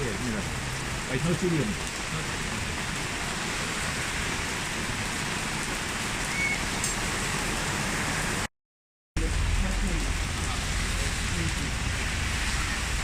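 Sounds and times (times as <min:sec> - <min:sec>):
steady rain falling: 0:00.0 - 0:08.5, 0:09.2 - 0:13.0.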